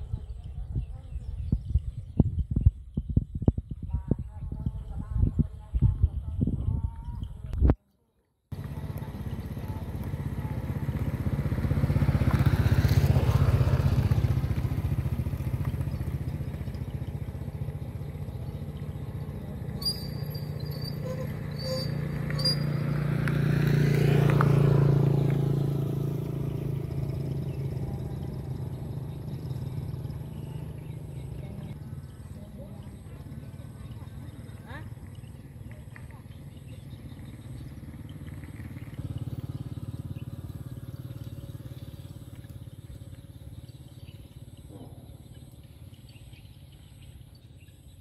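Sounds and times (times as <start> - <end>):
passing vehicles engine hum: 8.5 - 48.0.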